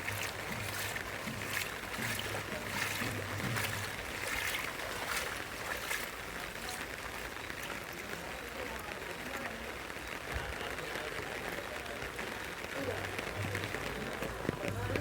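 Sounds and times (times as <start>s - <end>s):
footsteps on a wet path: 0.0s - 15.0s
steady rain falling: 0.0s - 15.0s.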